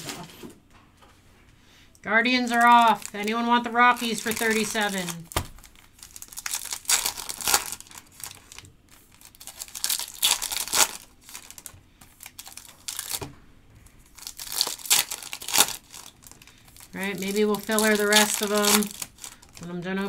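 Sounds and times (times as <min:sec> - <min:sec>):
card pack wrappers crinkling and tearing: 0:02.3 - 0:13.3, 0:14.0 - 0:19.7.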